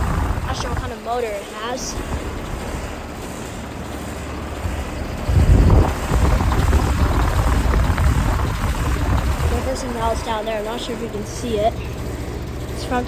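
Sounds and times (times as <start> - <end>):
fan noise: 0.0 - 13.0
heat pump compressor running: 0.0 - 13.0.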